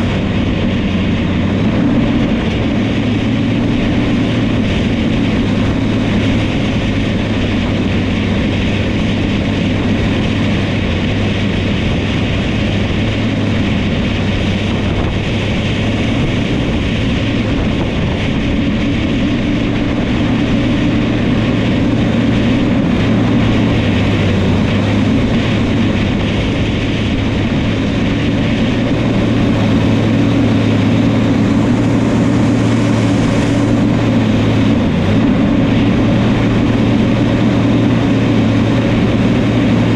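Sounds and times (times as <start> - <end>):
dozer diesel engine droning: 0.0 - 39.9.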